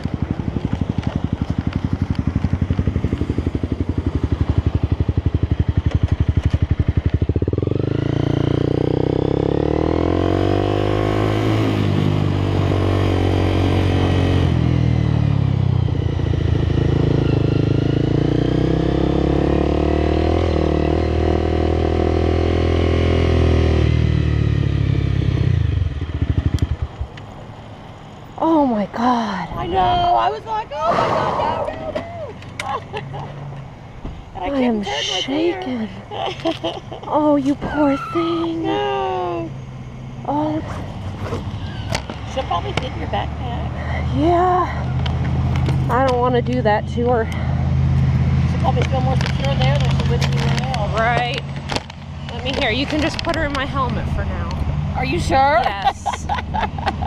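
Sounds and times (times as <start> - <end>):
motorcycle engine: 0.0 - 28.8, 29.6 - 57.0.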